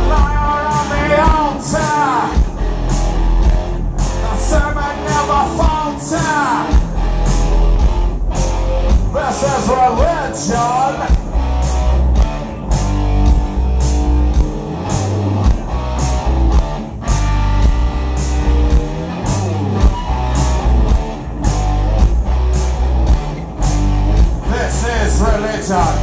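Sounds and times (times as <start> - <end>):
electric guitar: 0.0 - 26.0
live band playing: 0.0 - 26.0.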